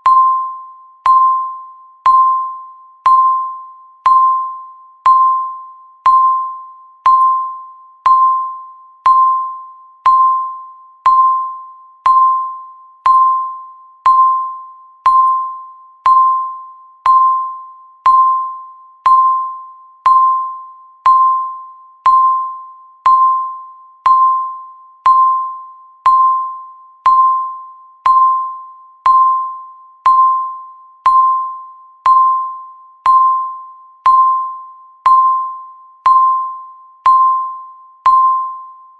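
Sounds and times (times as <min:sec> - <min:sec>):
electronic timer ticking: 0:00.0 - 0:38.7.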